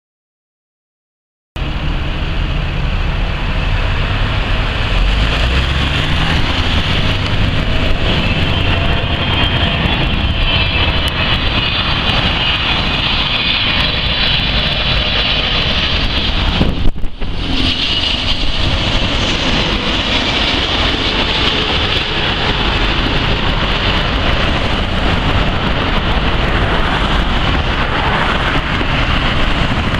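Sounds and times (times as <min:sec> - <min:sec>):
jet engine roar: 0:01.6 - 0:29.9.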